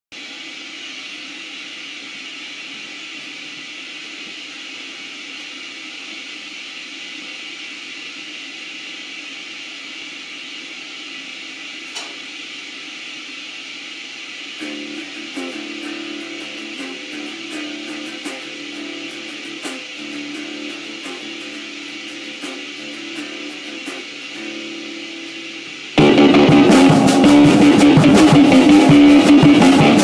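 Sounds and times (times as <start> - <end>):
steady hiss: 0.2 - 30.0.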